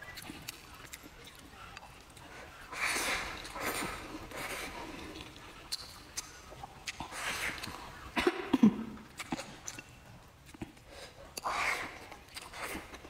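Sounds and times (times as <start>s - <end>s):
person eating: 0.0s - 13.0s.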